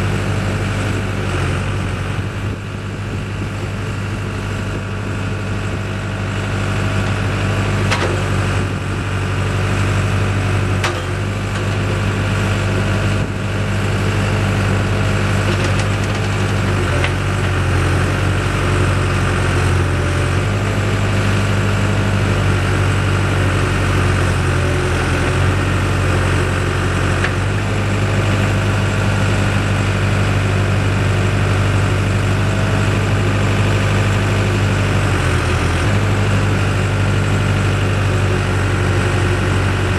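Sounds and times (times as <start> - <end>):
backhoe loader diesel engine: 0.0 - 39.9.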